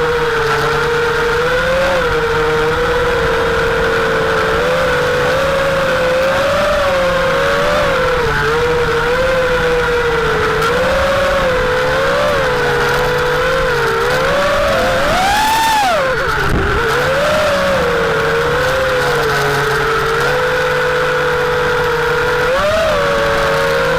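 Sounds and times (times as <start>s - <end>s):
drone motors whining: 0.0s - 23.9s.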